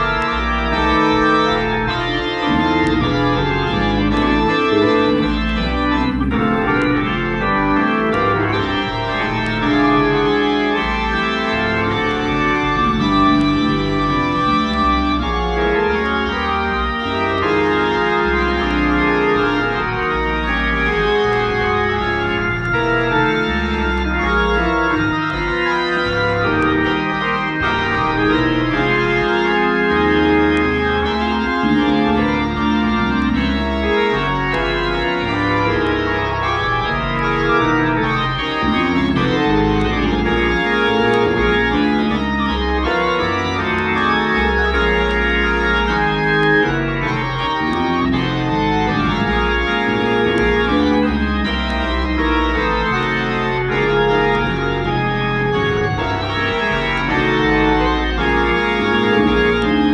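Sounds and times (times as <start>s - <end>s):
electronic organ chords: 0.0s - 59.9s.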